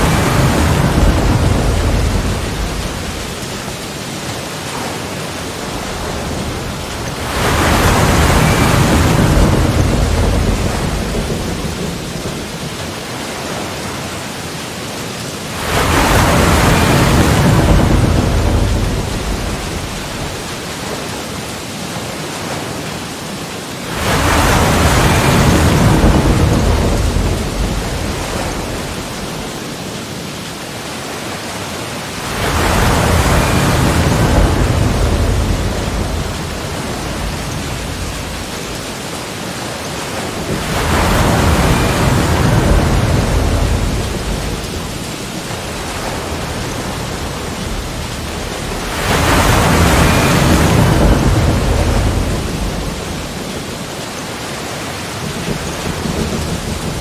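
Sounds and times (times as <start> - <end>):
hiss of surf: 0.0 - 57.0
sea waves breaking: 0.0 - 57.0.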